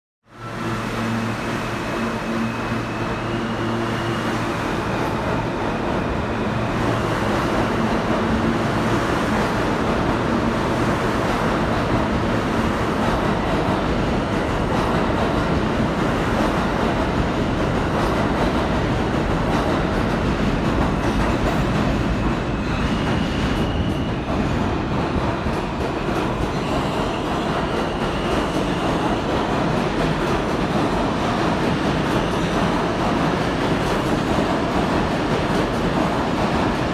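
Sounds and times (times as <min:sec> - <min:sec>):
subway train on rails: 0:00.2 - 0:36.9.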